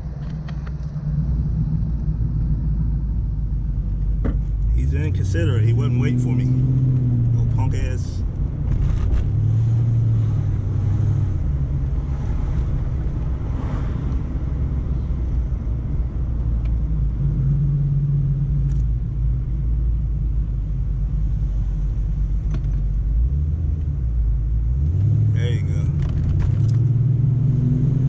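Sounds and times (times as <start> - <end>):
car engine drone from inside cabin: 0.0 - 28.0
road rumble: 0.0 - 28.0.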